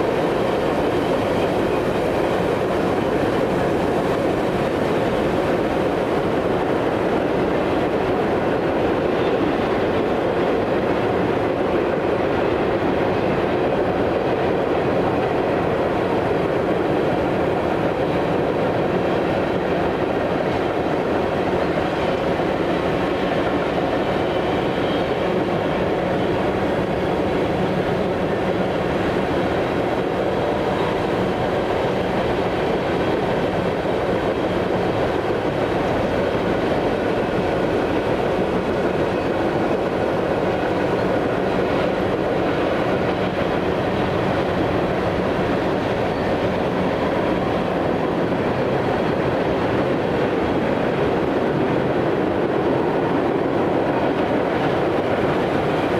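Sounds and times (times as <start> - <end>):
train wheels on rails: 0.0 - 55.9.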